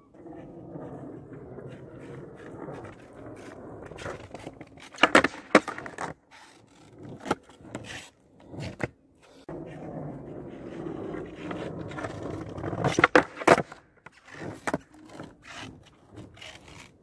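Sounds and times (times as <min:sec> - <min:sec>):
skateboard wheels rolling on concrete: 0:00.0 - 0:17.0
skateboard clacking on ground: 0:00.2 - 0:17.0.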